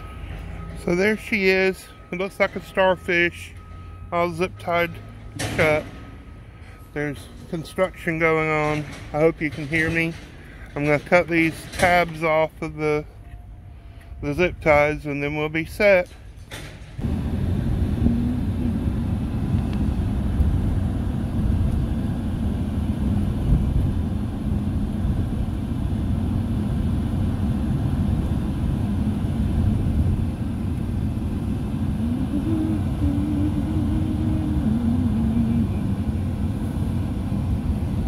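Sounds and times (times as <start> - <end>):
car engine rumble: 0.0 - 38.0
road noise: 0.0 - 38.0.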